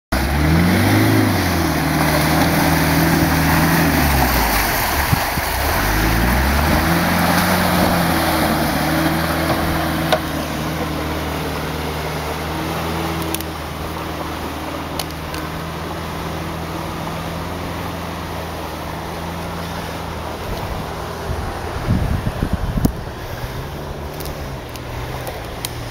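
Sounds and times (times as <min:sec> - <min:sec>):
off-road vehicle engine revving: 0:00.1 - 0:25.9
wheels splashing through mud water: 0:00.1 - 0:25.9.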